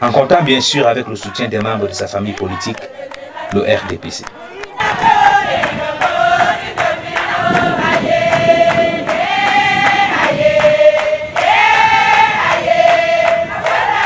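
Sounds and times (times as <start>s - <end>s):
women singing a chant: 0.3s - 14.0s.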